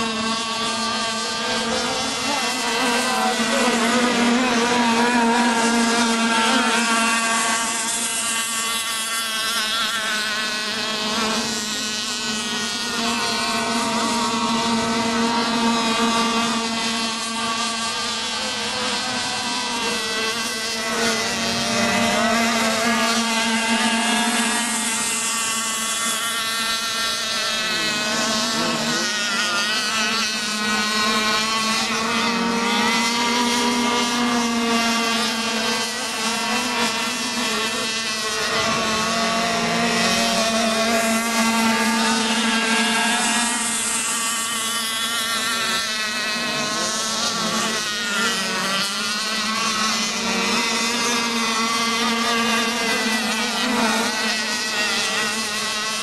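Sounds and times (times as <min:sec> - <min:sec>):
model boat engines buzzing: 0:00.0 - 0:56.0.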